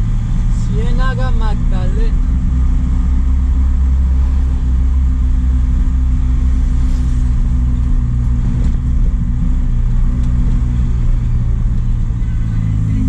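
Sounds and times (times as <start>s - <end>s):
road noise: 0.0s - 13.0s
truck engine cruising: 0.0s - 13.0s.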